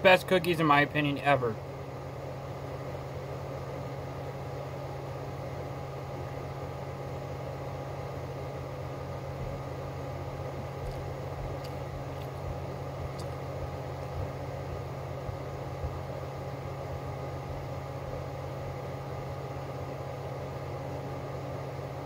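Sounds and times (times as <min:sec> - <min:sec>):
appliance mechanical hum: 0:00.0 - 0:22.0.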